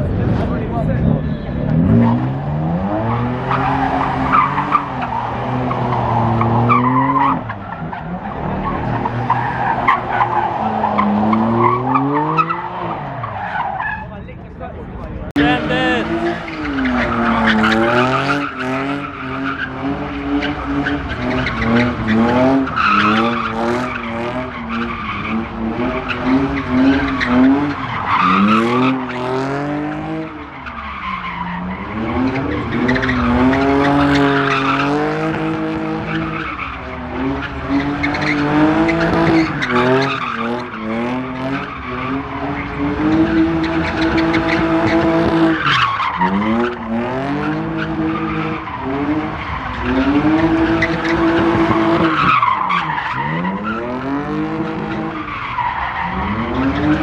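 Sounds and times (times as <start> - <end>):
tyres squealing and skidding: 0.0 - 14.6, 15.4 - 57.0
car engine revving hard: 0.2 - 13.3, 15.4 - 57.0.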